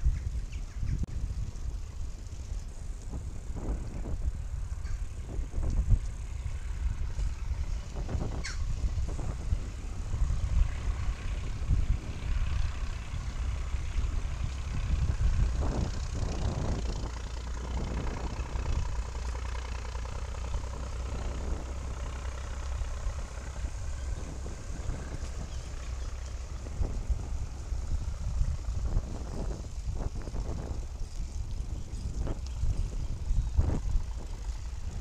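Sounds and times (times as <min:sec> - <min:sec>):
bicycle tyres rumbling on road: 0:00.0 - 0:35.0
wind buffeting microphone: 0:00.0 - 0:35.0.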